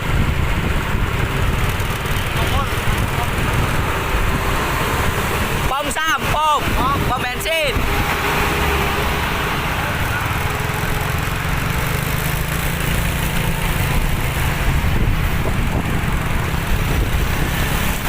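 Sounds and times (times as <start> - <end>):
road noise: 0.0 - 18.0
vehicle engine low rumble: 0.0 - 18.0.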